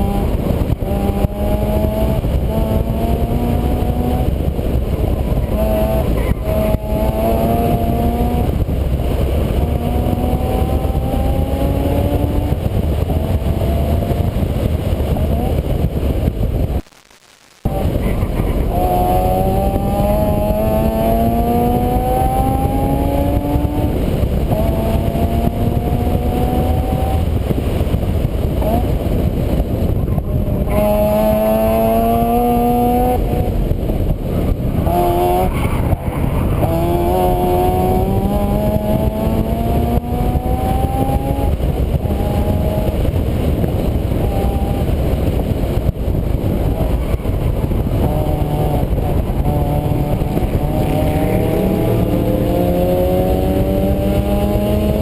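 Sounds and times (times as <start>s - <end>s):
vehicle engine accelerating: 0.0s - 16.8s, 17.6s - 55.0s
loud steady rushing noise: 0.0s - 55.0s.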